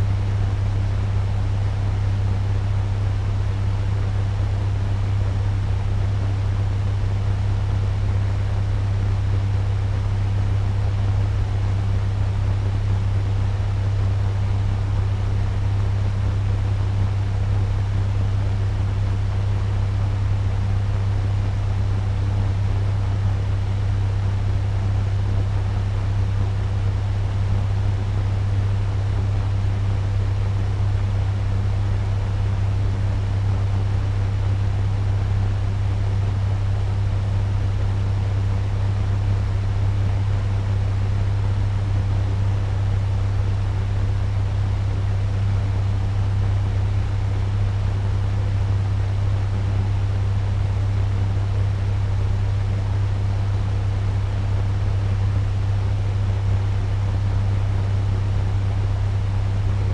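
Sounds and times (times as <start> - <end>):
low fan hum: 0.0 - 59.9
fan air rushing: 8.6 - 59.9.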